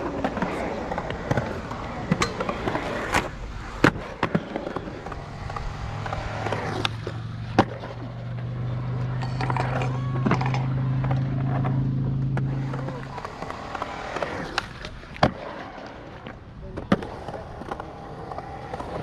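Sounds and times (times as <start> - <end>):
skateboard clacking on ground: 0.0 - 19.0
skateboard wheels rolling: 0.0 - 19.0.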